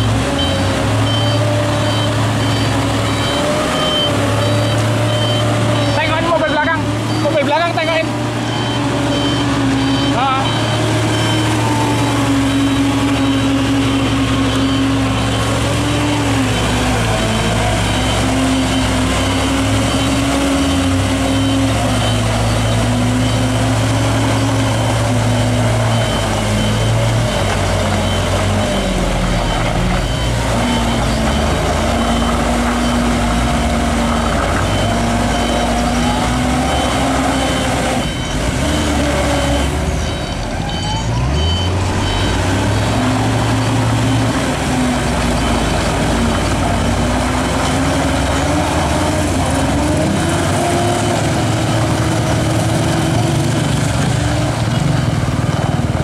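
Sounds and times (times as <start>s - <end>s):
reversing alarm beeping: 0.0s - 55.4s
diesel truck engine straining: 0.0s - 56.0s.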